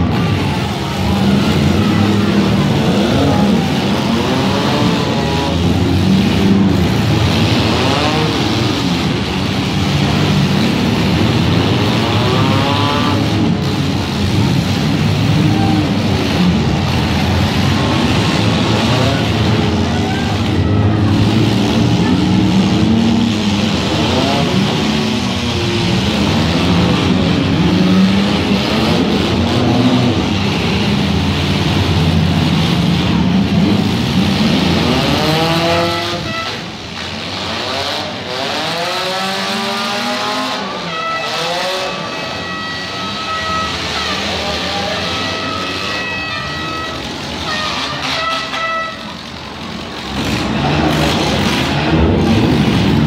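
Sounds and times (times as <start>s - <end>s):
car engines revving hard: 0.0s - 53.0s
cars ramming: 0.0s - 53.0s.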